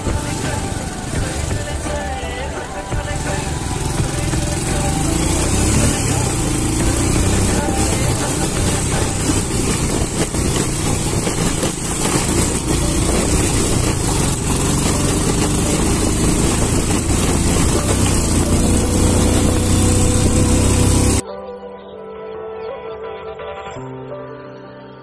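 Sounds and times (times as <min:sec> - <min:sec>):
heavy rushing noise: 0:00.0 - 0:21.2
motorcycle engine running: 0:00.0 - 0:21.2
soft music: 0:00.0 - 0:25.0.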